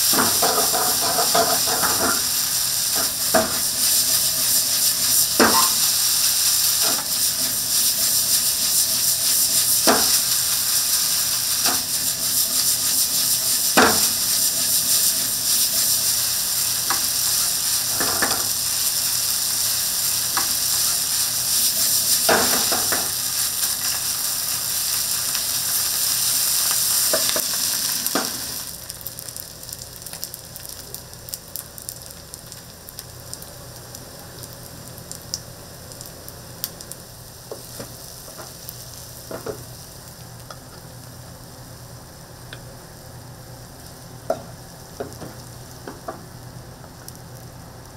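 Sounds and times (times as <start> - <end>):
food sizzling in frying pan: 0.0 - 47.9.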